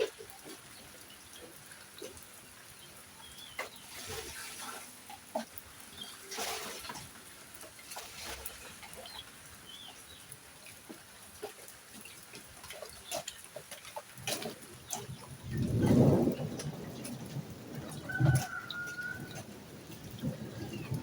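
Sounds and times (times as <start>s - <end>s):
rain dripping and pattering: 0.0s - 21.0s.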